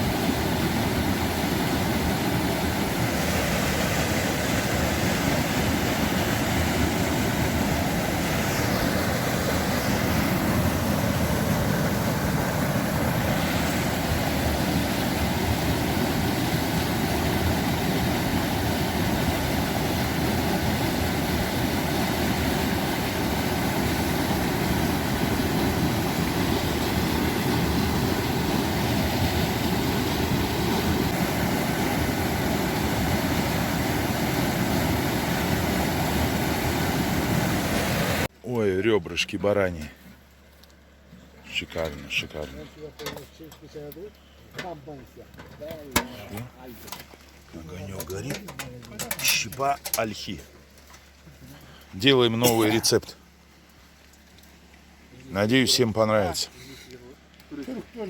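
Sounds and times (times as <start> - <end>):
rushing river water: 0.0 - 38.4, 46.2 - 58.0.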